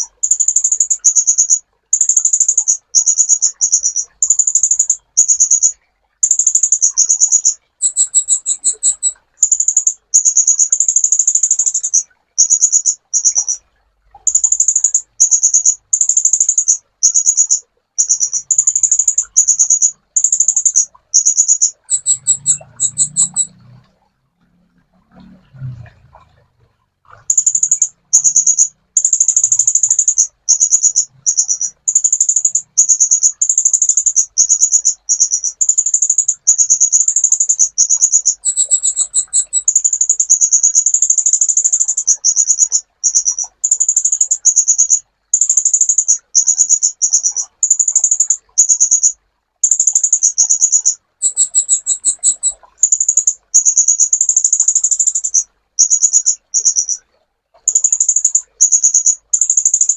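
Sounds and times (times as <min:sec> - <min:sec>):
bird singing high rapid trills: 0:00.0 - 0:13.6, 0:14.3 - 0:23.8, 0:27.3 - 0:57.0, 0:57.7 - 0:59.9.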